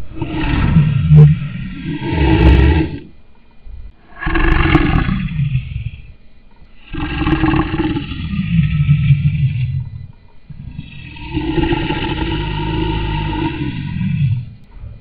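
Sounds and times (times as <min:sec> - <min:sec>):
lion roaring: 0:00.0 - 0:03.1, 0:04.0 - 0:06.1, 0:06.8 - 0:14.6.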